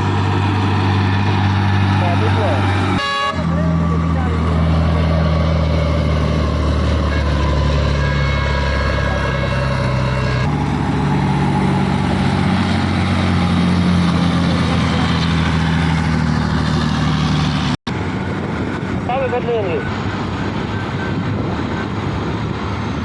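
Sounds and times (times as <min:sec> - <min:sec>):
large diesel engine running: 0:00.0 - 0:23.0.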